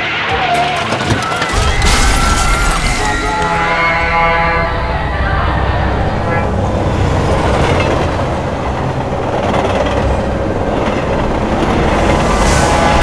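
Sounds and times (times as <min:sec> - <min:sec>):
train running on track: 0:00.0 - 0:13.0.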